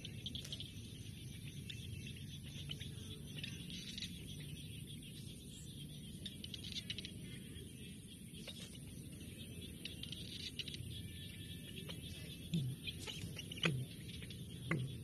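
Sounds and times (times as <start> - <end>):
high chirping trills: 0.0 - 15.0.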